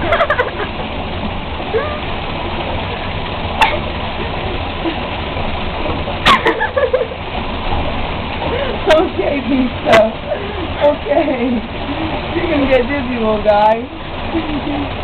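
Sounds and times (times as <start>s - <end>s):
bathwater sloshing and splashing: 0.0s - 15.0s
steady rushing noise: 0.0s - 15.0s.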